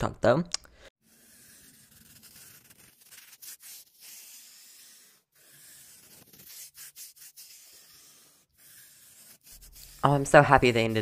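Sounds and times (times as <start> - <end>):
marker scratching on surface: 1.0 - 11.0.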